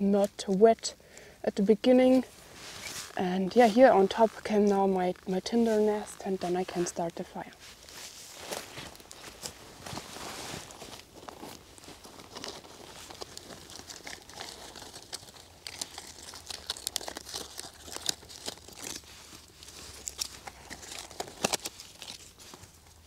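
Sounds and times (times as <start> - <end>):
dry tinder crinkling and crackling: 0.0 - 23.0.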